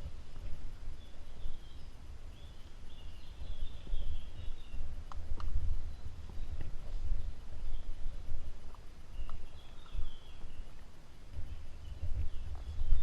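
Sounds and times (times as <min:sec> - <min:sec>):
low rumble on microphone: 0:00.0 - 0:13.0
bird chirping: 0:00.9 - 0:04.9, 0:05.6 - 0:08.3, 0:09.1 - 0:13.0.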